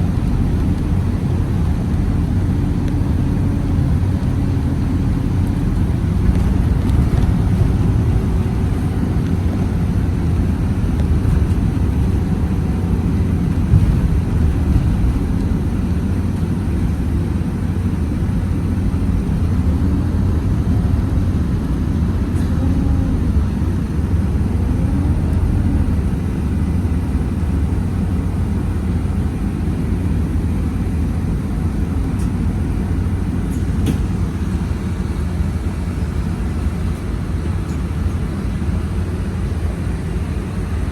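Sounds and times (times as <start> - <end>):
bus engine rumble: 0.0 - 40.9
road noise: 0.0 - 40.9.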